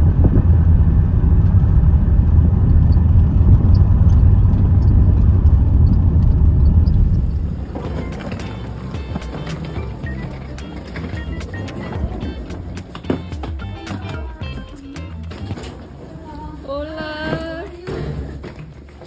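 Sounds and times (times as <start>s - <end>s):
fan air buffeting microphone: 0.0s - 19.0s.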